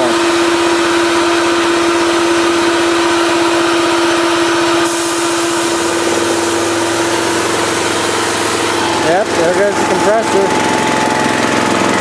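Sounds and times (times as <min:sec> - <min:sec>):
air compressor engine running: 0:00.0 - 0:12.0.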